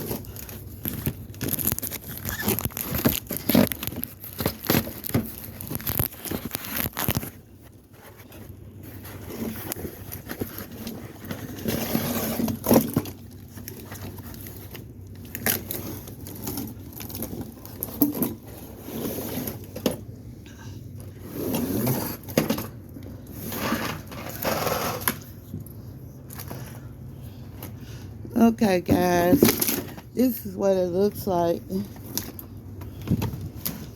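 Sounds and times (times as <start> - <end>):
packaging scraping and rustling: 0.0 - 20.1, 21.1 - 27.0, 31.8 - 33.9.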